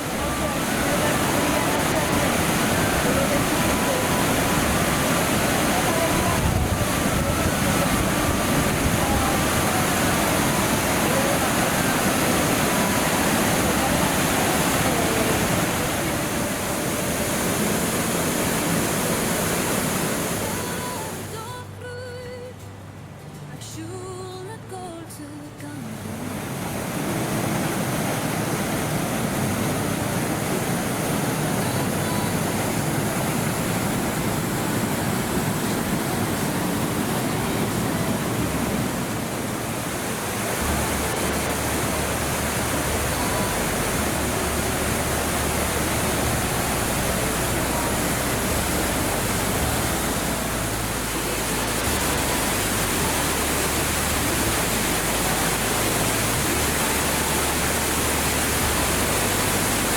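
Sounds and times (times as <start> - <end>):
waterfall rushing: 0.0 - 21.6, 25.8 - 59.9.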